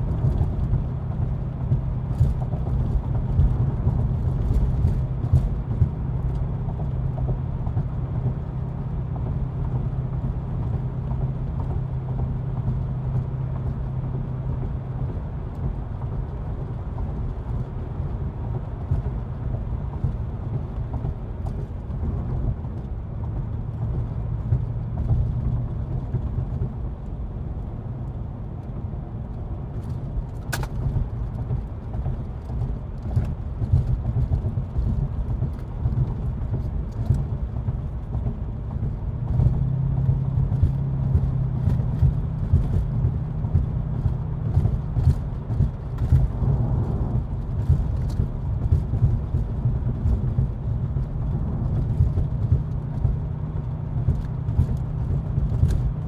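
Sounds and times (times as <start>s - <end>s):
car engine drone: 0.0s - 56.0s
road rumble: 0.0s - 56.0s.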